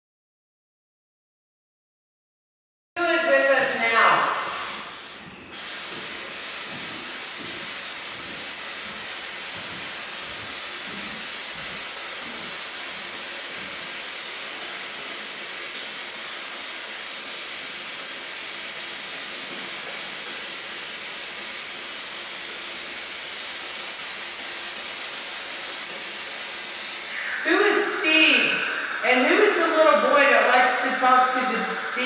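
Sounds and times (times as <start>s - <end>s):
radio static hiss: 3.0s - 32.0s.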